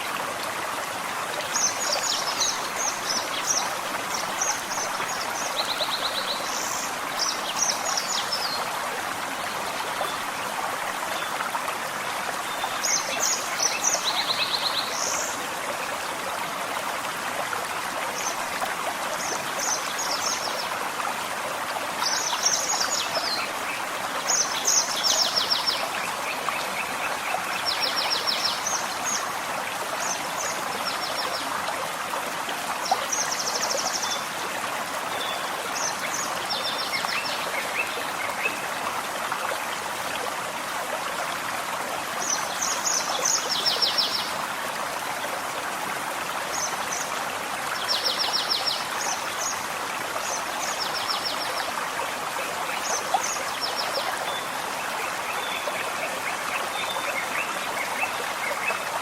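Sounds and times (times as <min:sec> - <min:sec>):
stream rushing water: 0:00.0 - 0:59.0.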